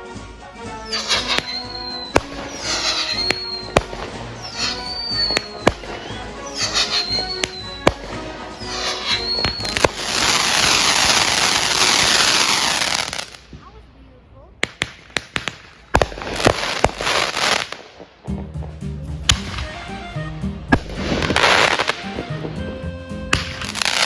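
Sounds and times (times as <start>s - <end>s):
fireworks crackling and whistling: 0.0s - 13.8s, 14.6s - 24.0s
firework bangs: 0.0s - 13.9s, 14.5s - 24.0s
dense crackling hiss: 0.0s - 24.0s.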